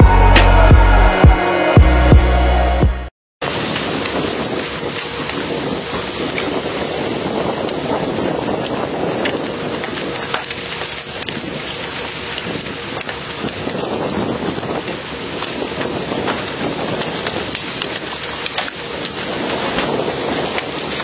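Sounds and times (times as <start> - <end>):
sea wash: 3.4 - 21.0.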